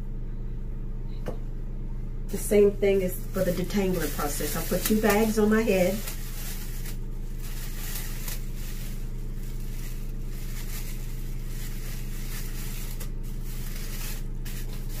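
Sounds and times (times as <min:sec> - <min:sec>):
steady low hum: 0:00.0 - 0:15.0
plastic bag crinkling: 0:02.3 - 0:15.0.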